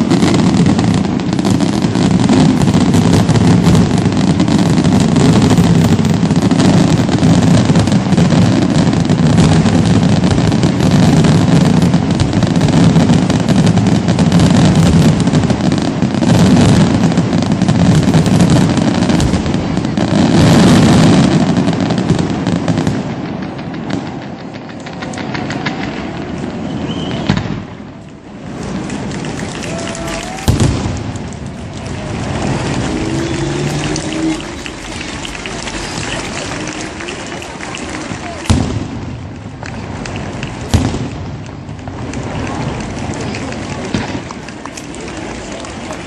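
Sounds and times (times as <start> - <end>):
fireworks bangs and crackling: 0.0 - 46.0.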